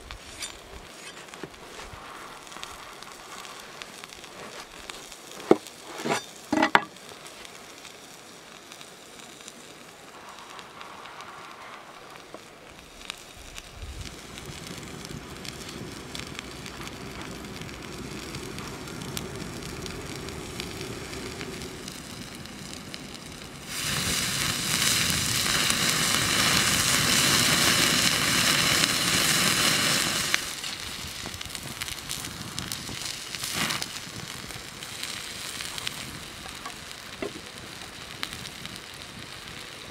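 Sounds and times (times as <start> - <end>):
burger patty sizzling: 0.0 - 39.9
wood fire crackling: 0.0 - 39.9.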